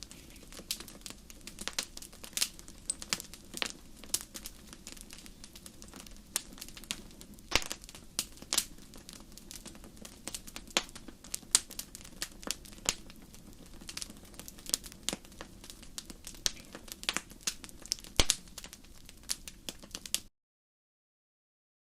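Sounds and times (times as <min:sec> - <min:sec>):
faint low hiss: 0:00.0 - 0:20.1
loud pops of fire: 0:00.0 - 0:20.3
wood fire crackling: 0:00.0 - 0:20.3.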